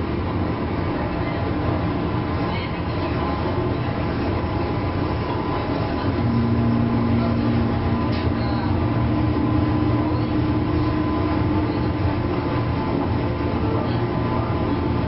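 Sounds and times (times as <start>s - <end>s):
electrical hum: 0.0s - 15.0s
higher electrical hum: 0.0s - 15.0s
train wheels rumbling on track: 0.0s - 15.0s.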